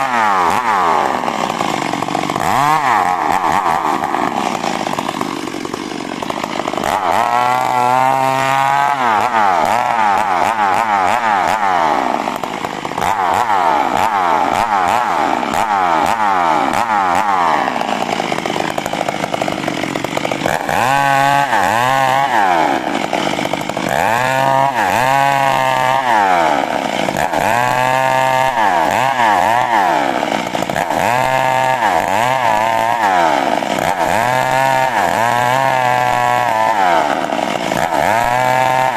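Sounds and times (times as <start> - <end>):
chainsaw sawing wood: 0.0 - 38.9.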